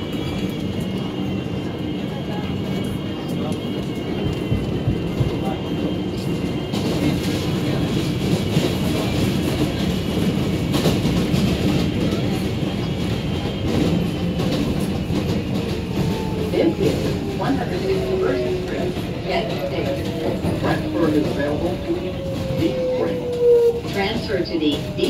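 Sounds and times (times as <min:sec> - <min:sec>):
rumble of wheels on rails: 0:00.0 - 0:25.0.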